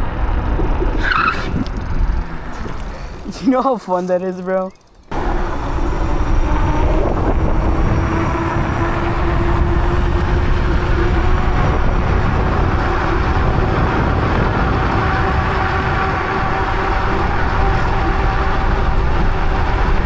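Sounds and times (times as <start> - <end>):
wind buffeting on microphone: 0.0 - 3.4, 5.3 - 20.0.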